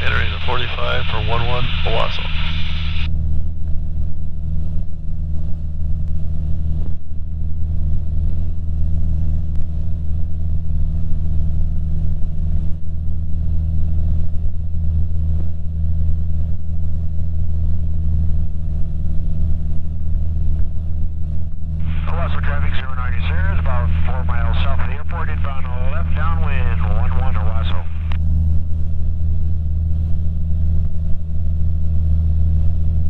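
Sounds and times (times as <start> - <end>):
propeller plane engine droning: 0.0 - 33.0.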